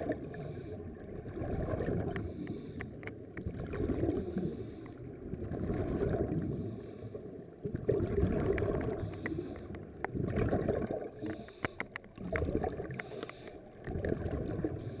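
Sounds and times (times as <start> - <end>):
exhaled bubbles underwater: 0.0 - 15.0.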